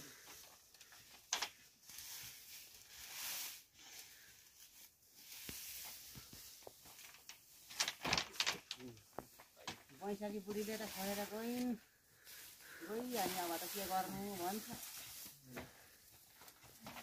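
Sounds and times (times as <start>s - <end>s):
dry straw rustling: 0.0s - 17.0s.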